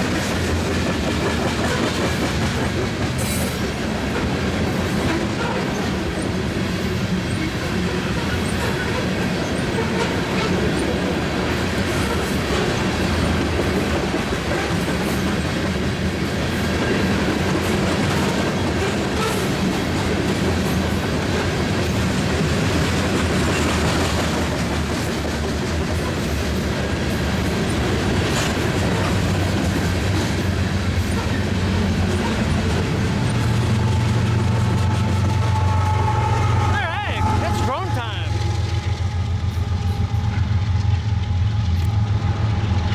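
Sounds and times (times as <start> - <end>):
train wheels clattering over rail joints: 0.0 - 35.5
freight train rumble: 0.0 - 42.9.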